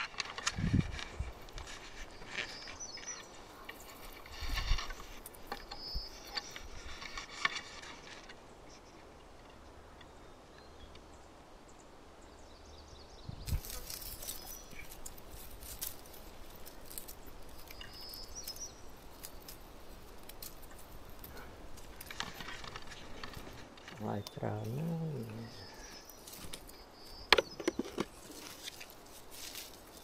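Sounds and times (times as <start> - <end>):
leaves and twigs rustling: 0.0 - 10.8, 13.2 - 30.0.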